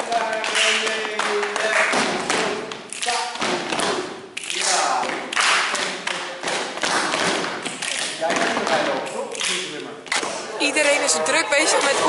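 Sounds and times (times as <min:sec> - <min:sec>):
children clapping and body slapping: 0:00.0 - 0:10.4.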